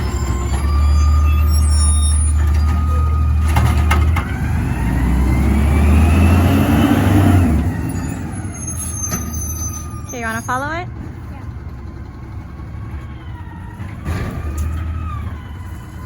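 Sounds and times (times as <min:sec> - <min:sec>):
garbage truck engine revving: 0:00.0 - 0:16.0.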